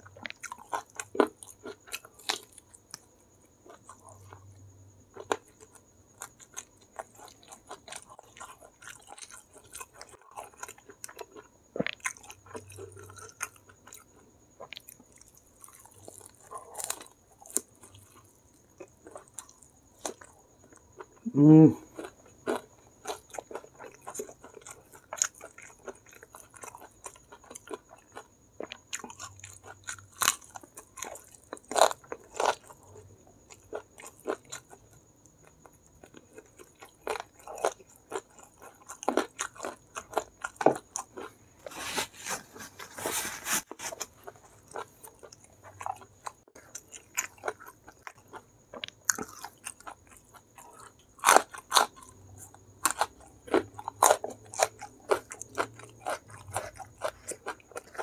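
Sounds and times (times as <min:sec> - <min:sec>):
crunchy chewing of fried chicken: 0:00.0 - 0:58.0.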